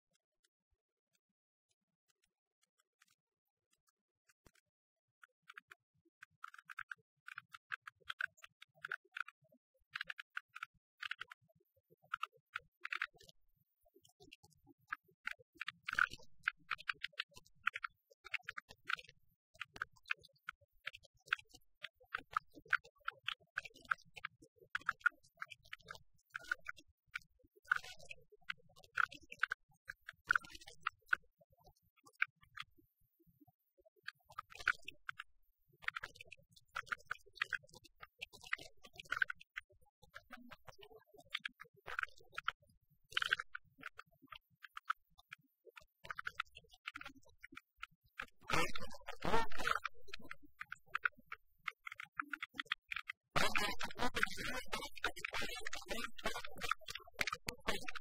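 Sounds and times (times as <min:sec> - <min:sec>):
faint irregular clicking: 0:00.0 - 0:58.0.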